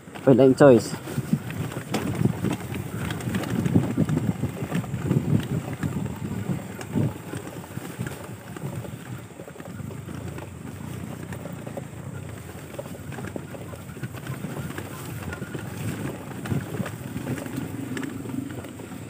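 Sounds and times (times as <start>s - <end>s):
wind buffeting the microphone: 0.0s - 19.0s.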